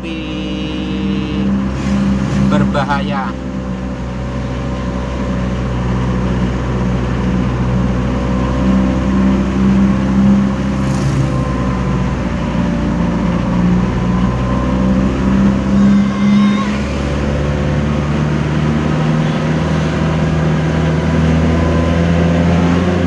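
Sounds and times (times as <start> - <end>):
tyre and road noise: 0.0 - 23.0
vehicle engine running at low speed: 0.0 - 23.0.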